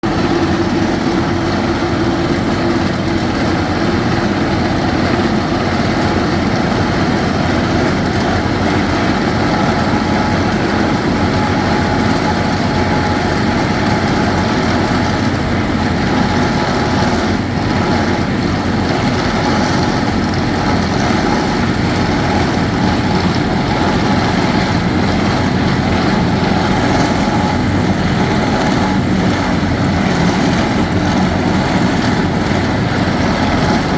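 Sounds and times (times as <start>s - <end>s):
core-drilling rig running: 0.0s - 33.9s.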